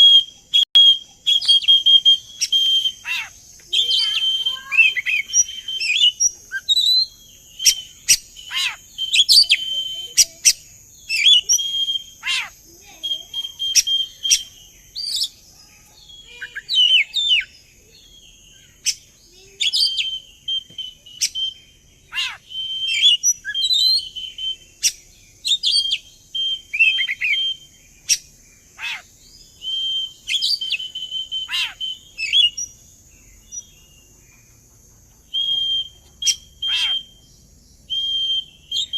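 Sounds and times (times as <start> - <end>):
bird singing whistled song: 0.0 - 34.5, 35.2 - 38.9.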